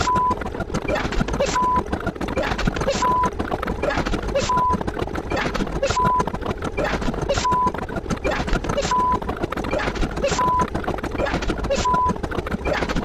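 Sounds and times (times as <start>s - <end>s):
noisy clatter: 0.0s - 13.0s.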